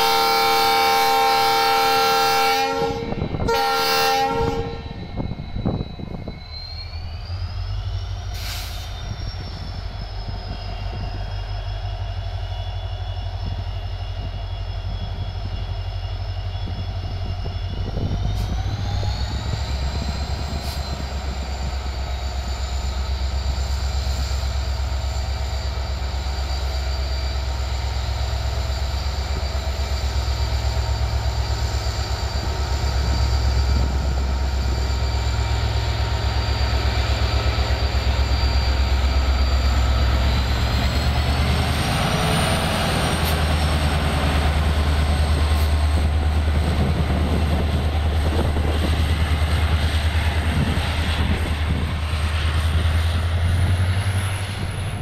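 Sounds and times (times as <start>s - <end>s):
diesel locomotive engine drone: 0.0s - 55.0s
locomotive high whine: 0.0s - 55.0s
train coaches rumbling past: 0.0s - 55.0s.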